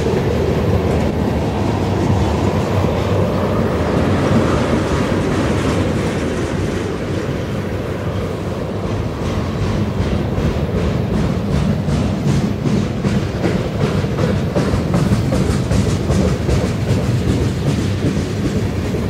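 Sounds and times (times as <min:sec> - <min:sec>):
train wheels rumbling on rail: 0:00.0 - 0:19.0
wheels clickety-clack: 0:00.0 - 0:19.0.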